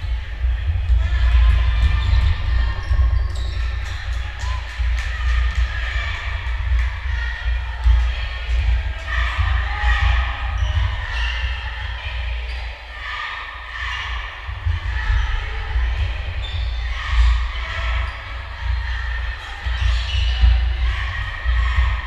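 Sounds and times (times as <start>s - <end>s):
crowd chatter: 0.0s - 22.0s.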